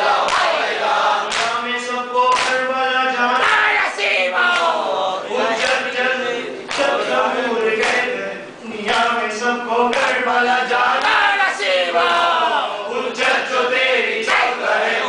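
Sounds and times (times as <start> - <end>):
men chanting together: 0.0 - 15.0.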